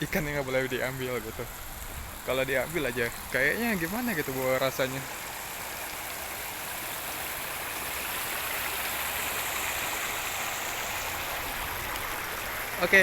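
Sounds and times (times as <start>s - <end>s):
flowing stream rushing: 0.0s - 13.0s.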